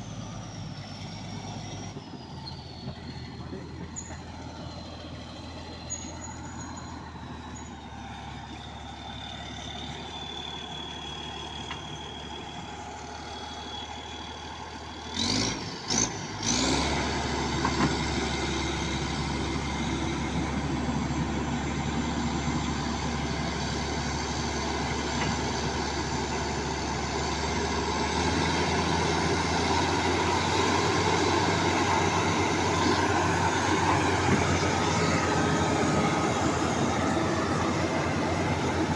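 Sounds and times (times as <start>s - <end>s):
bulldozer diesel engine: 0.0s - 38.9s.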